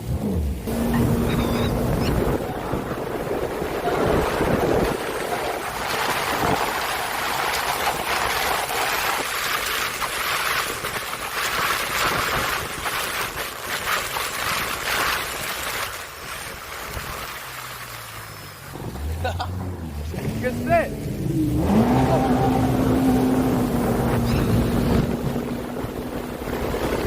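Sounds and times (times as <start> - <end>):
water rushing and splashing: 0.0 - 27.0
wind buffeting microphone: 0.2 - 17.4, 18.7 - 27.0.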